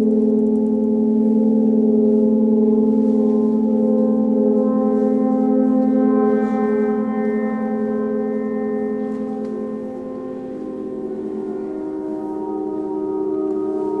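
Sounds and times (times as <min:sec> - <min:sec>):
gongs ringing drone: 0:00.0 - 0:14.0.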